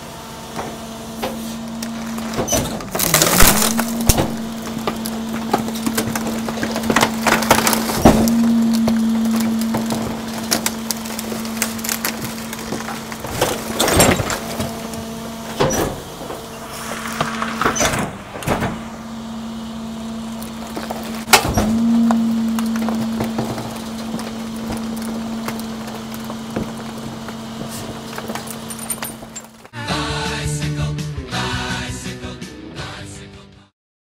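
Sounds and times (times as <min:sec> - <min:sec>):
garbage truck humming: 0:00.0 - 0:32.7
compactor blade crushing trash: 0:00.4 - 0:29.8
wood splintering and cracking: 0:01.2 - 0:19.0, 0:20.2 - 0:29.8.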